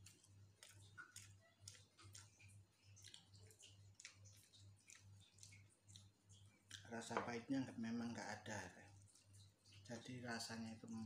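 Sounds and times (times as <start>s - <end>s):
person eating and chewing: 0.0s - 7.6s, 8.7s - 10.1s.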